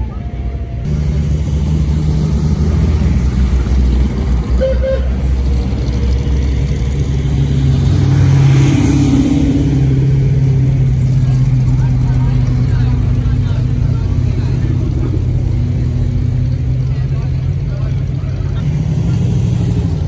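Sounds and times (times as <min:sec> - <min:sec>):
car engines passing slowly: 0:00.0 - 0:20.0.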